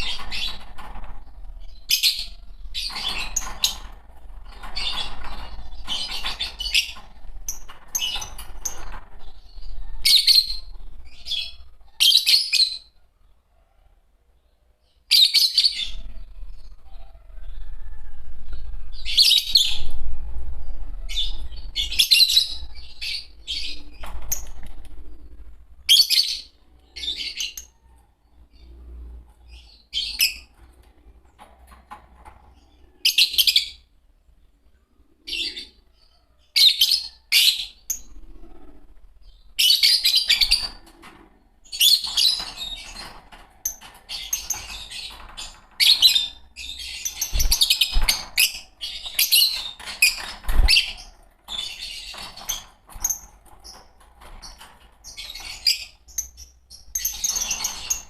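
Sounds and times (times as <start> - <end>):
lovebirds chirping: 0.0 - 13.7, 14.3 - 58.0.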